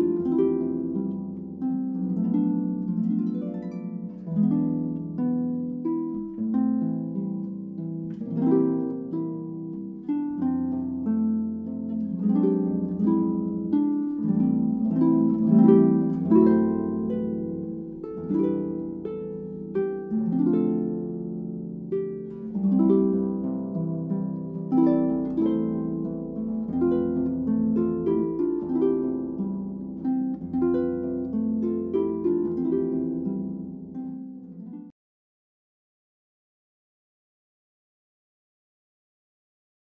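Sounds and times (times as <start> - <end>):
plucked harp-like notes: 0.0 - 34.9.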